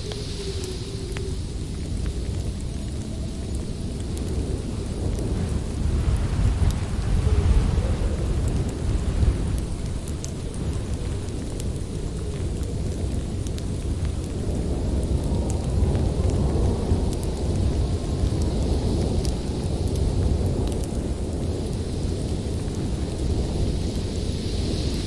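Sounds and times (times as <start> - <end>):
storm wind with low rumble: 0.0 - 25.0
wood fire crackling: 0.0 - 25.0.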